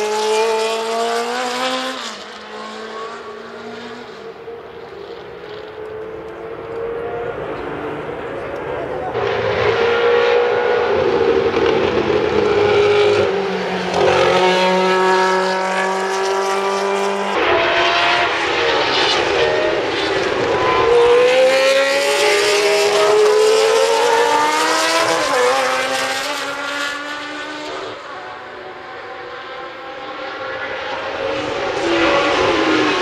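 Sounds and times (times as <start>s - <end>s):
racing cars at high revs: 0.0s - 33.0s.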